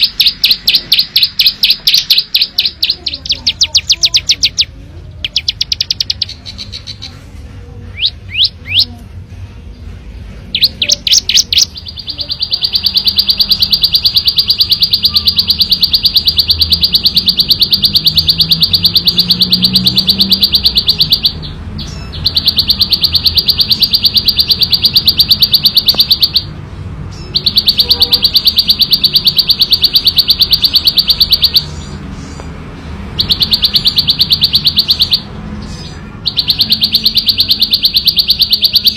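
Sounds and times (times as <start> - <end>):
bird chirping and trilling: 0.0 - 9.0, 9.7 - 38.9.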